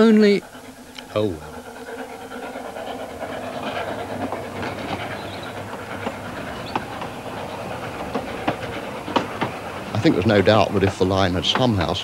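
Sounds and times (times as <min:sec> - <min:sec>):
steam train rumbling: 0:00.0 - 0:12.0
wheels clicking over rail joints: 0:00.0 - 0:12.0.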